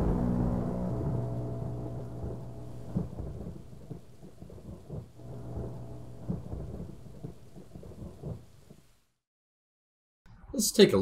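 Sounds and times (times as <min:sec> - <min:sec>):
low rumbling thunder: 0:00.0 - 0:08.9
steady rain: 0:00.0 - 0:09.2.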